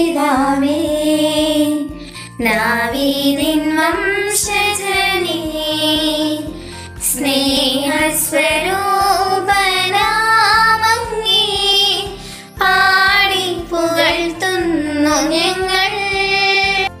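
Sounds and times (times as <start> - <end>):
instrumental accompaniment: 0.0 - 17.0
person singing: 0.0 - 17.0.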